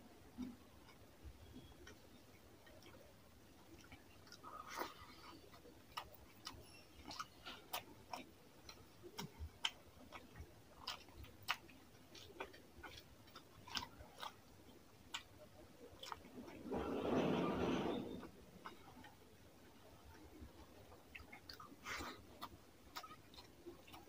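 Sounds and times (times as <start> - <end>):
chewing with mouth clicks: 0.4 - 16.6, 18.6 - 24.0.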